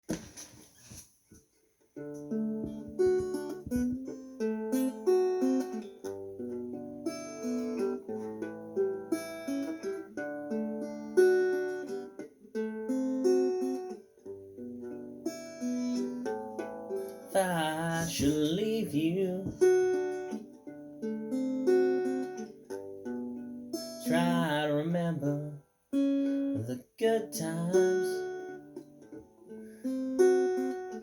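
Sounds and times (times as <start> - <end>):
acoustic guitar picking: 2.0 - 31.0.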